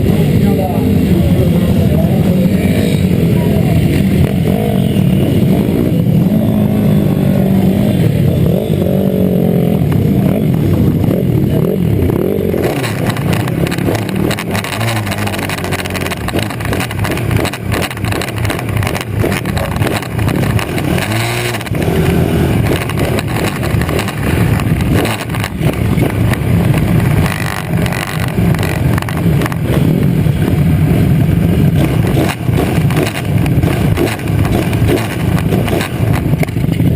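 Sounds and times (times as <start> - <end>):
pit bike engines revving: 0.0 - 36.9.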